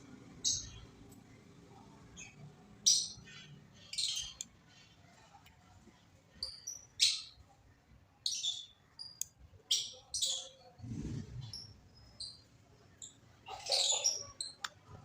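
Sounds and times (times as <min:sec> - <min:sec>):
birds chirping: 0:00.0 - 0:05.3, 0:08.2 - 0:15.0.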